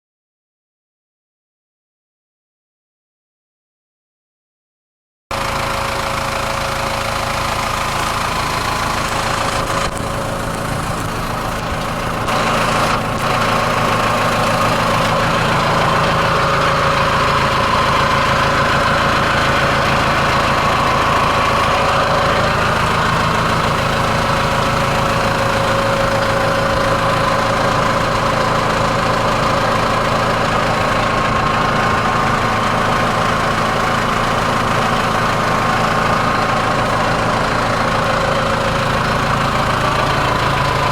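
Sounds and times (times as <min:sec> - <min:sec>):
tractor engine running: 0:05.3 - 0:40.9.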